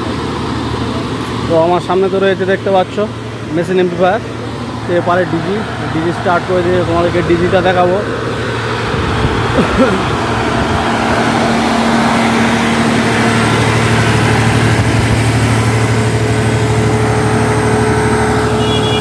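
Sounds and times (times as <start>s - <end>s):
diesel generator humming: 0.0s - 19.0s.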